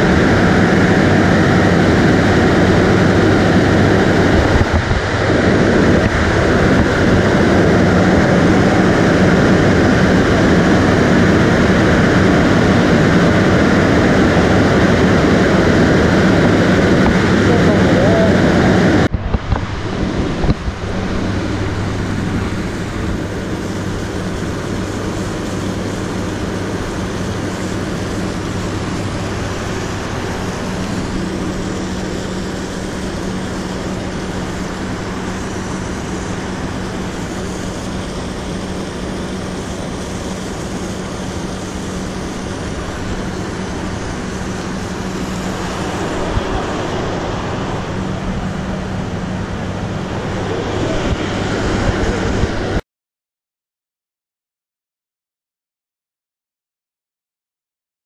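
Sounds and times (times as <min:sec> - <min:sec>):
fast-flowing water rushing: 0:00.0 - 0:52.8
turbine-generators humming: 0:00.0 - 0:52.8.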